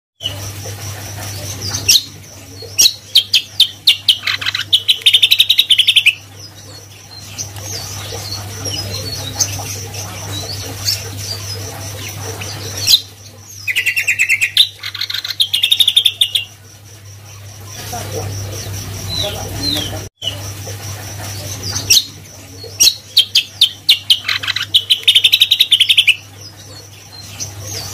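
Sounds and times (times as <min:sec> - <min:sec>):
bird chirps: 0:00.2 - 0:20.5, 0:21.3 - 0:27.9.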